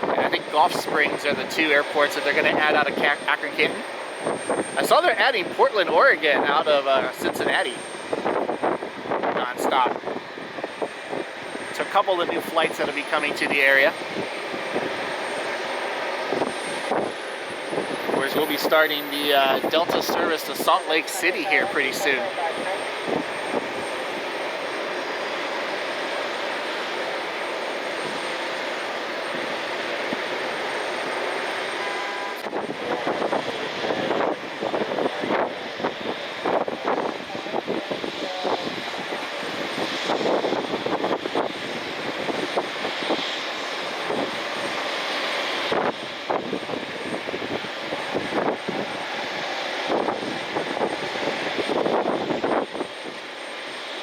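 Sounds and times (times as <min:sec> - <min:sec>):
airliner engine noise: 0:00.0 - 0:54.0.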